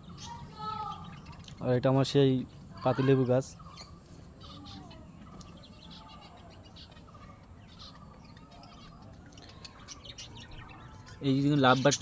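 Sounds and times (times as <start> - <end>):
small birds chirping faintly: 0.0 - 12.0.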